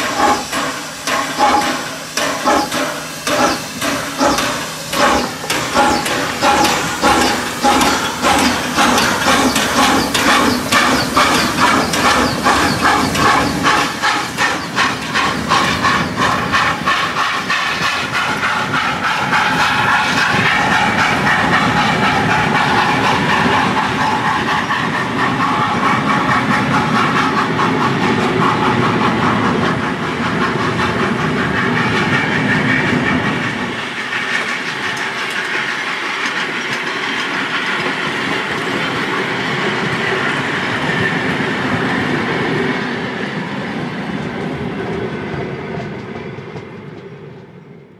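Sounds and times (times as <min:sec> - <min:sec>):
steam hiss: 0:00.0 - 0:42.4
steam locomotive chuffing: 0:00.0 - 0:47.9
train wheels clacking over rails: 0:00.0 - 0:47.9.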